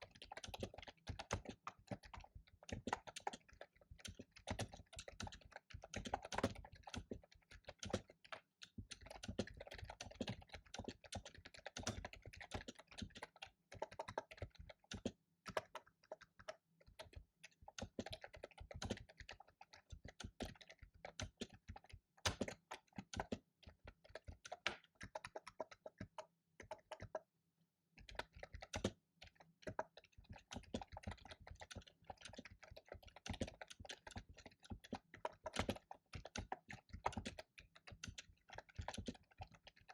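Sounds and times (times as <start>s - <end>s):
fast typing on keyboard: 0.0s - 27.3s, 28.0s - 39.9s.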